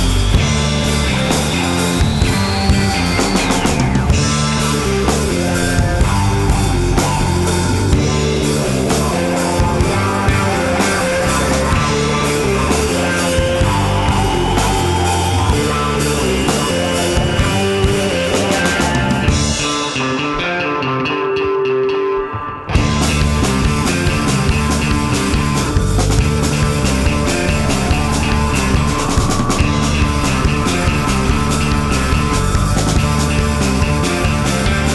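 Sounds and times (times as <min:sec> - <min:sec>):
steady drum beat: 0:00.0 - 0:20.2, 0:22.8 - 0:34.9
electric guitar: 0:00.0 - 0:34.9
rock music: 0:00.0 - 0:34.9.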